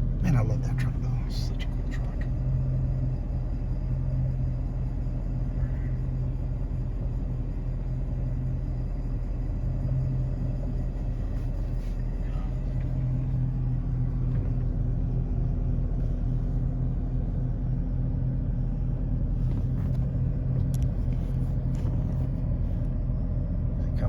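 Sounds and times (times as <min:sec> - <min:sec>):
pickup engine idling: 0:00.3 - 0:22.8.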